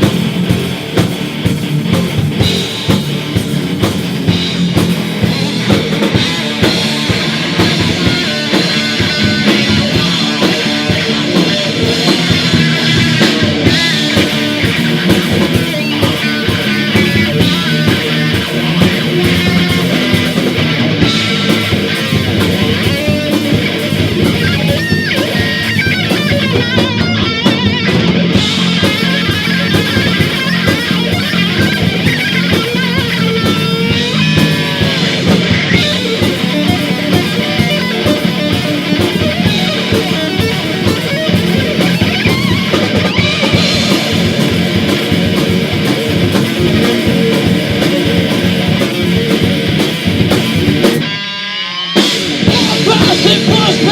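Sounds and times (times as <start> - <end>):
heavy metal band playing: 0.0 - 53.9.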